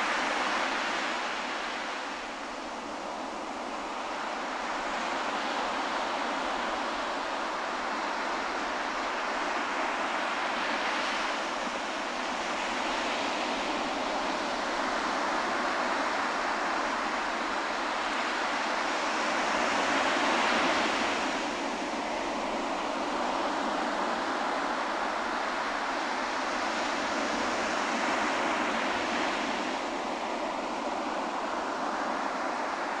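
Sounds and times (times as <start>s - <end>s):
surf washing up a sandy beach: 0.0s - 33.0s.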